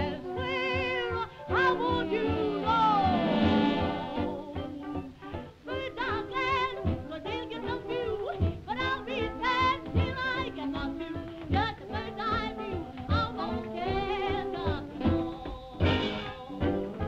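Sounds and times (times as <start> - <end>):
jazz band with saxophones: 0.0 - 17.0
woman singing with vibrato: 0.0 - 17.0.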